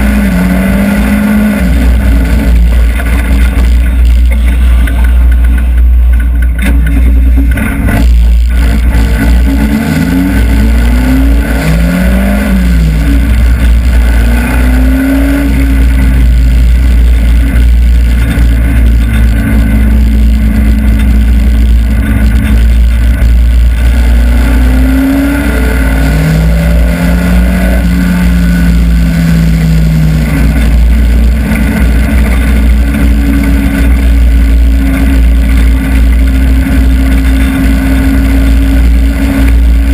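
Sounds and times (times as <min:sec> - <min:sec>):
heavy low rumble: 0:00.0 - 0:39.9
race car engine revving: 0:00.0 - 0:39.9.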